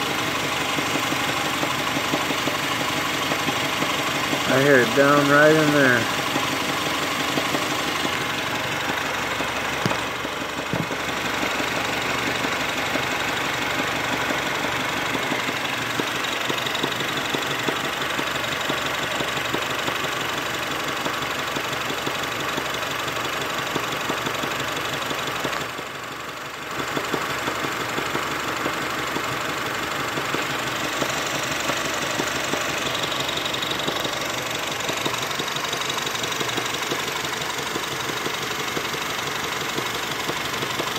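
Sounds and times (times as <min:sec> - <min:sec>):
car engine idling: 0:00.0 - 0:40.9
engine knocking: 0:00.0 - 0:40.9.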